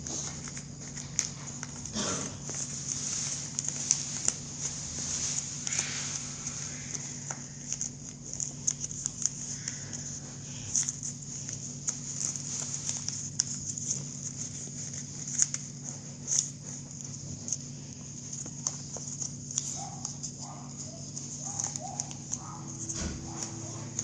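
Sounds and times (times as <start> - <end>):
paper crackling and tapping: 0.0 - 24.0
steady low hum: 0.0 - 24.0.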